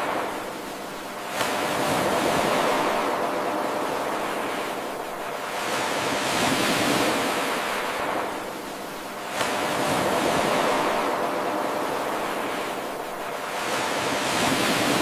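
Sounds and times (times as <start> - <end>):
ocean surf washing in: 0.0 - 15.0.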